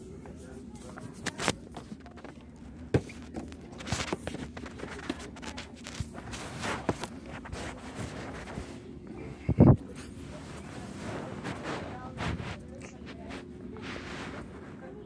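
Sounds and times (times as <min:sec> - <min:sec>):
low steady background hum: 0:00.0 - 0:15.0.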